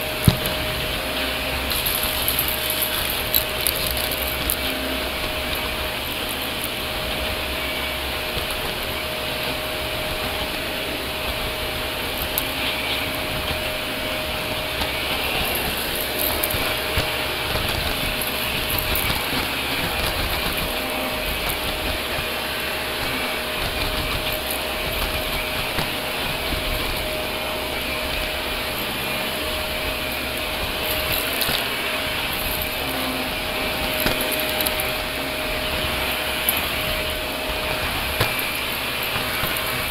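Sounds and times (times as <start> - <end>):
debris crackling in vacuum: 0.0 - 39.9
vacuum cleaner motor whine: 0.0 - 39.9.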